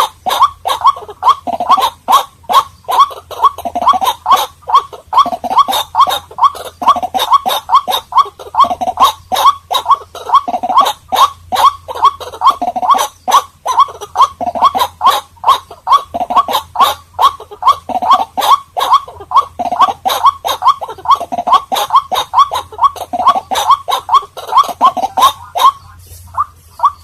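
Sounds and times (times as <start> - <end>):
waterhens calling: 0.0 - 27.0.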